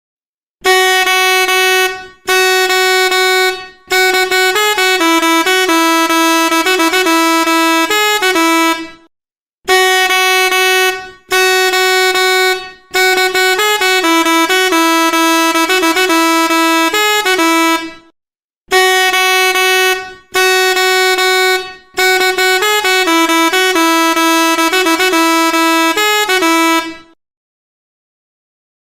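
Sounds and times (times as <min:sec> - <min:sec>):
melody air horn blasts: 0:00.6 - 0:09.1, 0:09.7 - 0:27.2.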